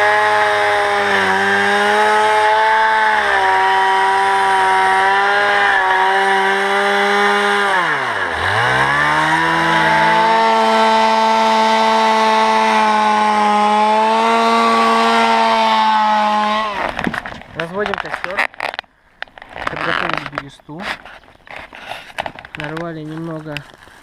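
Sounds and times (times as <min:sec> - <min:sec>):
chainsaw cutting wood: 0:00.0 - 0:22.8.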